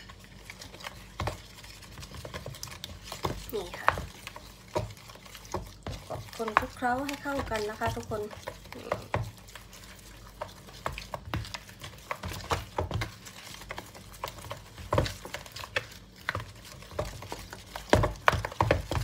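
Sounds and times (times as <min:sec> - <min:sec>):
wooden spoon stirring thick batter: 0:00.0 - 0:19.0.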